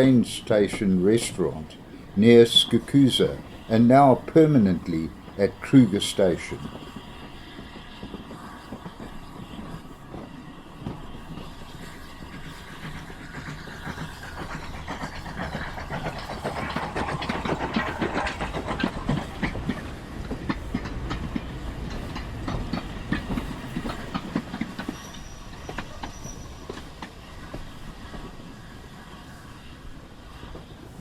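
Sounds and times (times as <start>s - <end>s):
train wheels clacking on rails: 0.0s - 31.0s.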